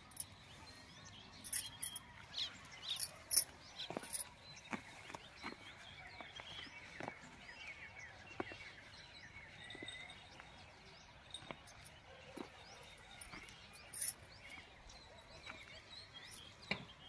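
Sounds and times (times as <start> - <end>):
small birds twittering: 0.0 - 17.0.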